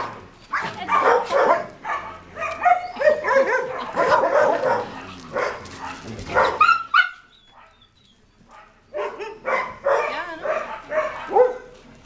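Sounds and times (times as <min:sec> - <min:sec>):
dogs barking: 0:00.0 - 0:07.9, 0:08.5 - 0:11.9.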